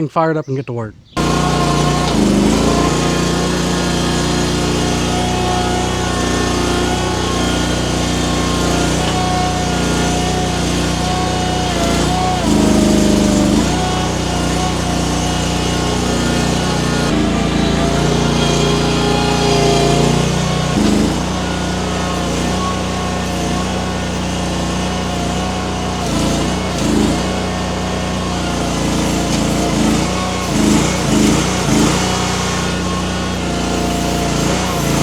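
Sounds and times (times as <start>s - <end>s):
small skid steer engine running: 1.2s - 35.0s.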